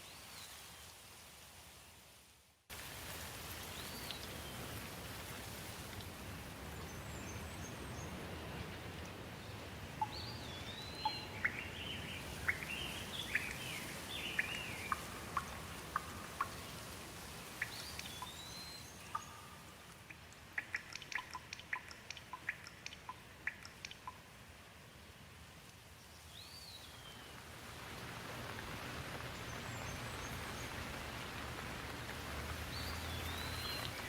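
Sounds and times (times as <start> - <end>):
rain falling on leaves: 0.0 - 34.0.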